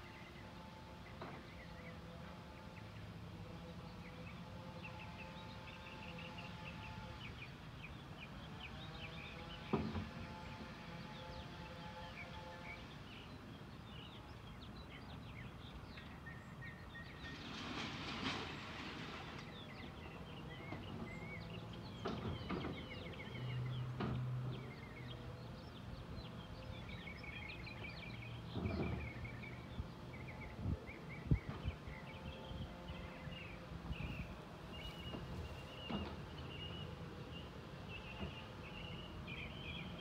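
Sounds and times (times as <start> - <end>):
low engine hum: 0.0 - 40.0
songbirds chirping: 0.0 - 40.0.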